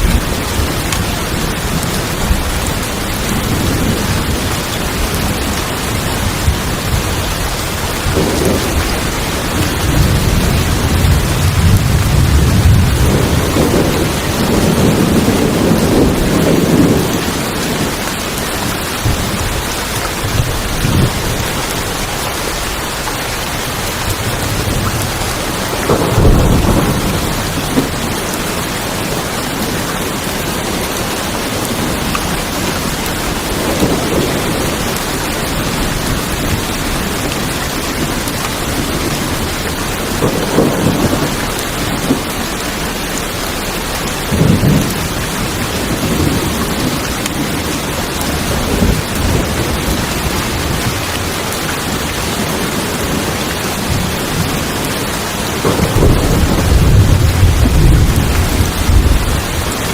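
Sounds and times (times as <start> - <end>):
rain on a tin roof: 0.0 - 59.9
thunder rumbling: 0.0 - 59.9.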